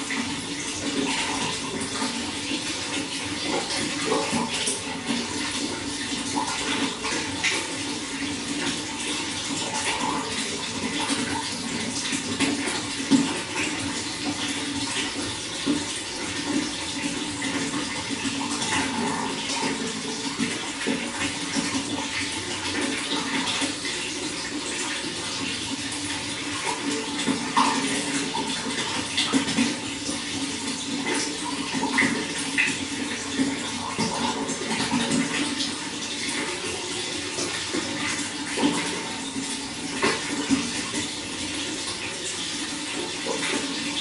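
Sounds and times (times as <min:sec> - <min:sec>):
running water splashing: 0:00.0 - 0:44.0.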